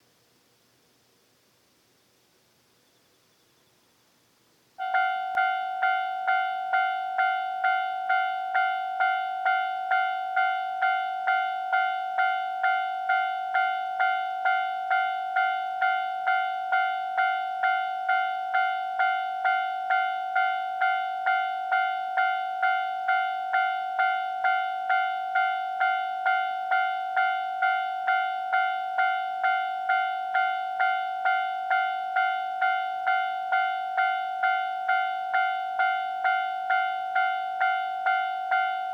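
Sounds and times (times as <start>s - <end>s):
level-crossing warning bell clanging: 4.8s - 38.9s.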